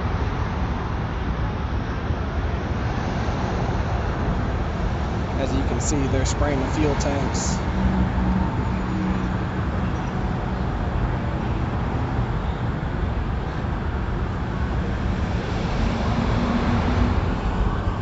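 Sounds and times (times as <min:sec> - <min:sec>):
faint engine hum: 0:00.0 - 0:18.0.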